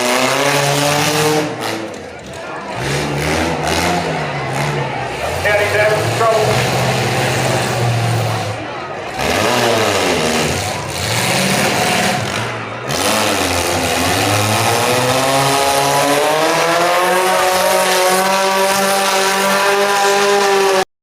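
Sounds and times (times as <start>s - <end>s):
car engines revving: 0.0s - 20.9s.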